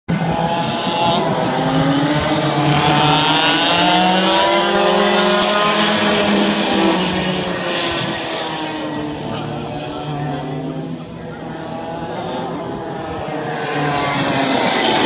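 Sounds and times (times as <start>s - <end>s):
kart engines passing: 0.1s - 15.0s.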